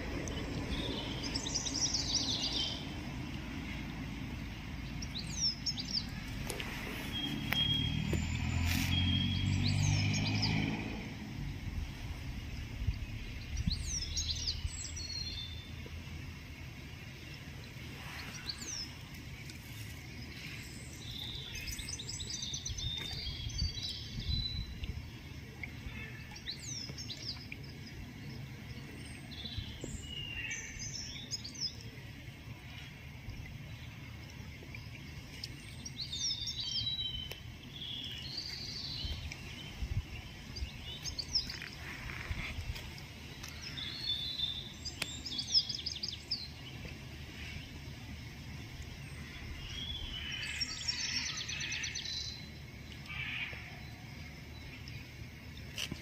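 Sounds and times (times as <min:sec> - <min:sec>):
low outdoor rumble: 0:00.0 - 0:56.0
songbirds chirping and calling: 0:00.0 - 0:56.0.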